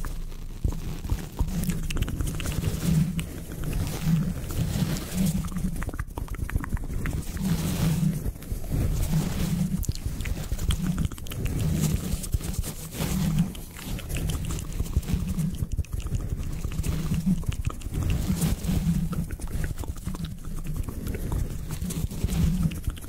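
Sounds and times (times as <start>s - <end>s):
sponge scraping microphone grille: 0.0s - 23.0s.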